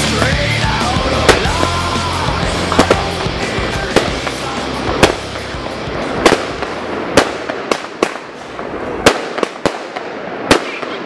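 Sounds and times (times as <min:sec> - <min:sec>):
fireworks bangs: 0:00.0 - 0:11.0
crackling hiss: 0:01.2 - 0:11.0.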